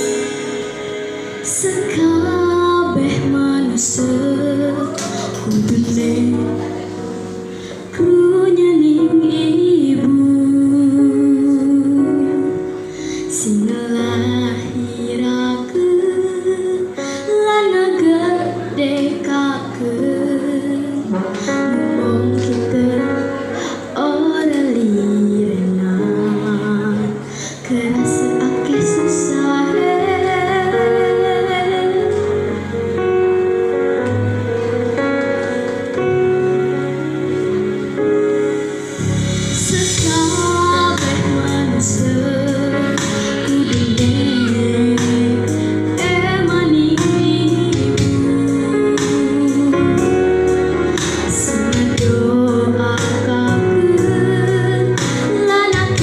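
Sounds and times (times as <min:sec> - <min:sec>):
girl singing into a microphone: 0:00.0 - 0:34.6, 0:39.1 - 0:56.0
instrumental accompaniment: 0:00.0 - 0:56.0.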